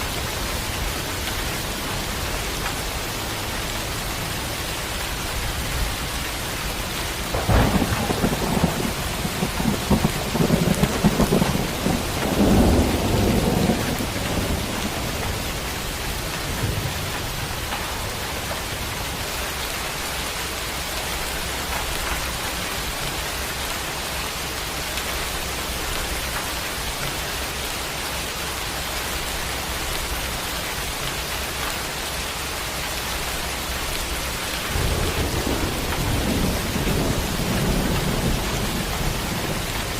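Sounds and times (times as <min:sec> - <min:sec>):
thunderclap and rumbles: 0:00.0 - 0:27.7, 0:29.2 - 0:39.9
rain hissing: 0:00.0 - 0:39.9.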